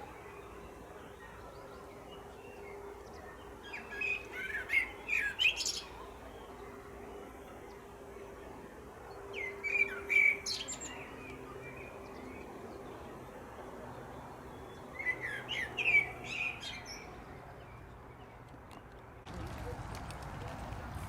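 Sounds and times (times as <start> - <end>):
songbird chirping: 0.0 - 19.2
faint steady background hum: 0.0 - 21.0.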